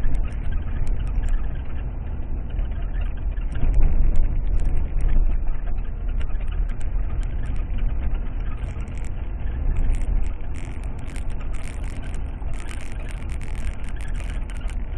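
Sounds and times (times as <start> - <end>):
faint ticks and rattles: 0.0 - 14.9.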